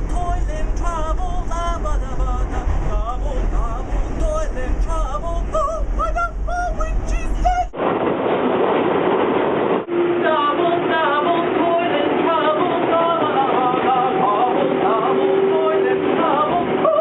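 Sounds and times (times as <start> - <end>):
person singing: 0.0 - 7.8, 10.2 - 17.0
subway train rushing: 0.0 - 17.0.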